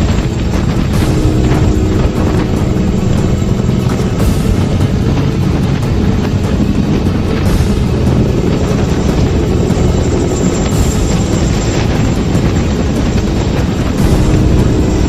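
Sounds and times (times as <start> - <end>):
helicopter rotors chopping: 0.0 - 15.0
turbine whine: 0.0 - 15.0.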